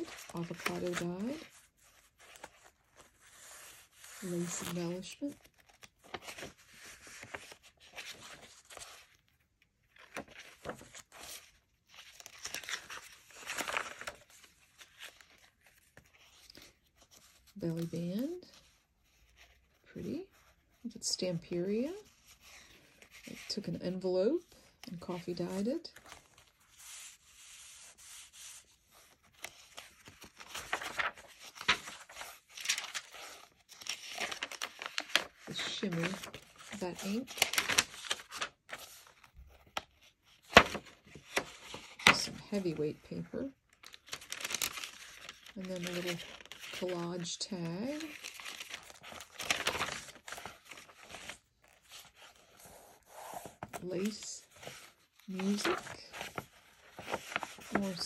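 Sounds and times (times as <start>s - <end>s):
paper pages turning: 0.0s - 20.8s, 24.6s - 58.0s.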